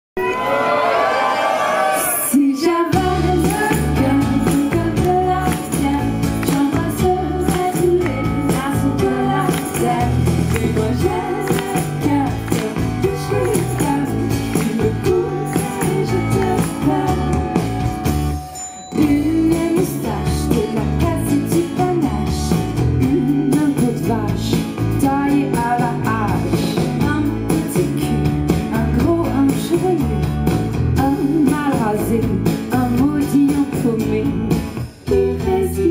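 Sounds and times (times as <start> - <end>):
live pop band playing: 1.8 - 35.9
women singing into microphones: 2.0 - 17.8, 19.0 - 30.2, 31.0 - 35.9
electric bass: 3.0 - 18.4, 19.0 - 35.9.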